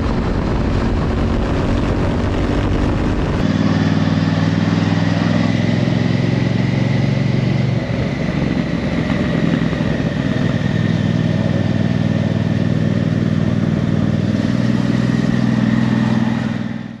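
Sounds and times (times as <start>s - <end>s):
wind noise: 0.0s - 3.8s, 4.4s - 16.8s
motorcycle engine running: 0.0s - 17.0s.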